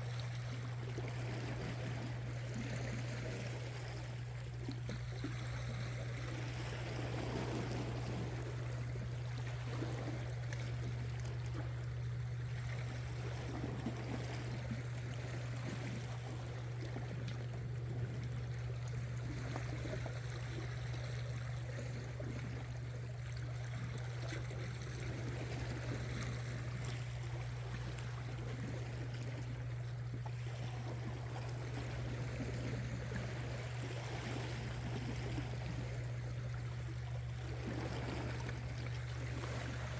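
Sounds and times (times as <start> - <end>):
constant low hum: 0.0 - 39.9
seawater splashing among rocks: 0.0 - 39.9.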